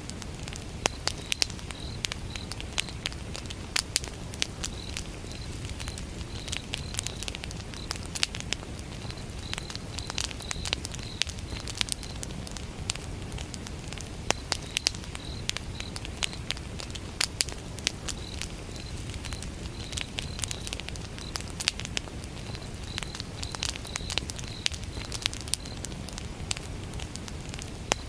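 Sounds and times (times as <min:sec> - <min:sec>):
wood fire crackling and popping: 0:00.0 - 0:28.0
cricket chirping: 0:00.5 - 0:13.0, 0:13.8 - 0:28.0.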